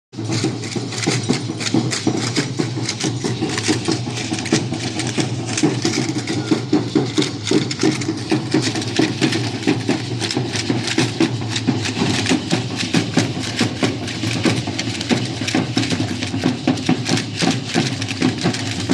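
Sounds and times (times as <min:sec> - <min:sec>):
drum beating steadily: 0:00.1 - 0:18.9
fast dense clatter of clicks: 0:00.2 - 0:18.9.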